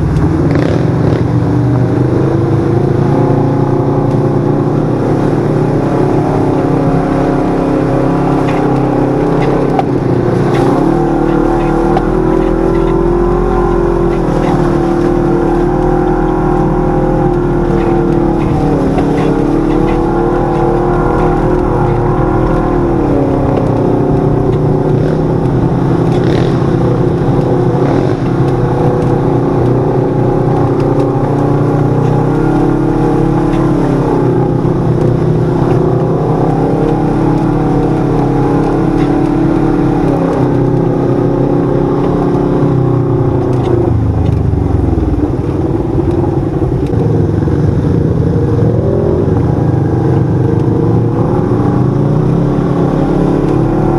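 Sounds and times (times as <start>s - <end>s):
utv engine running: 0.0s - 53.9s.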